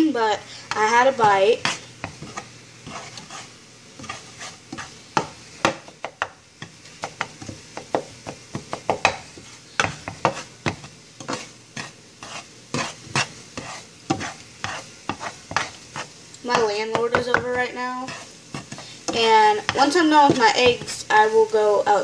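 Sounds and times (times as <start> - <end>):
spatula scraping frying pan: 0.0 - 21.6
eggs sizzling: 0.0 - 22.0.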